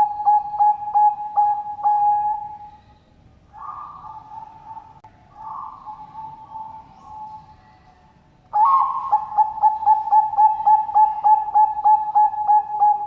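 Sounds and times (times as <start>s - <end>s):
dove cooing: 0.0s - 2.9s, 3.5s - 7.6s, 8.6s - 13.0s.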